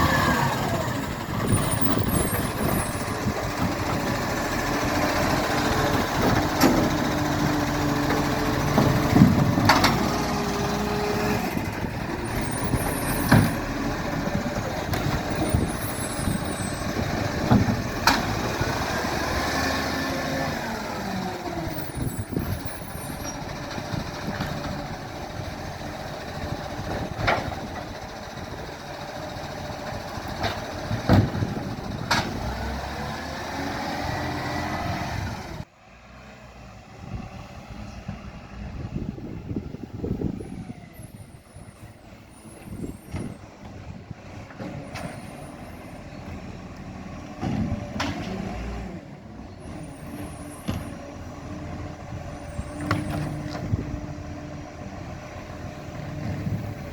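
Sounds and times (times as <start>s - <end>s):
garbage truck diesel engine: 0.0s - 56.9s.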